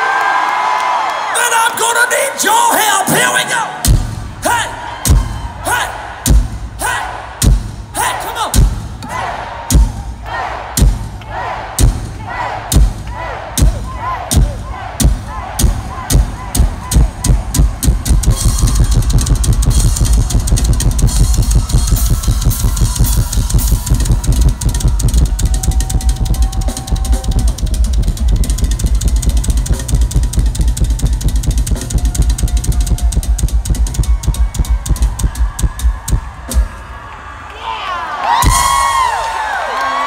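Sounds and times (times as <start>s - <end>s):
rock drum solo: 3.1s - 37.0s, 38.4s - 39.2s.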